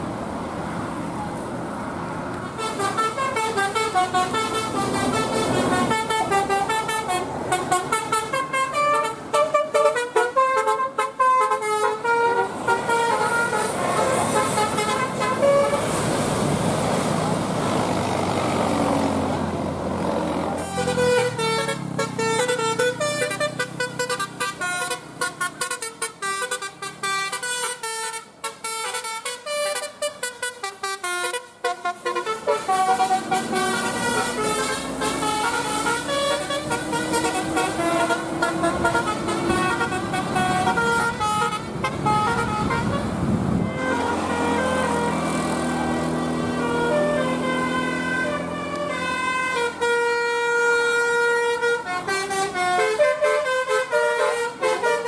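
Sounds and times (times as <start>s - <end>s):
vehicle engine and road noise: 0.0s - 55.0s
bus horn playing a tune: 2.4s - 16.3s, 20.4s - 55.0s.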